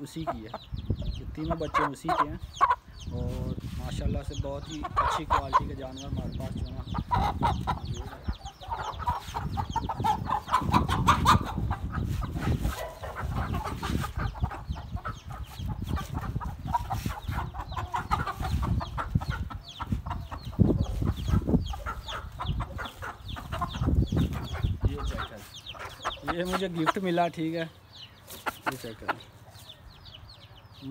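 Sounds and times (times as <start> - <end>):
chickens clucking: 0.0 - 30.9
chicks calling: 0.0 - 30.9.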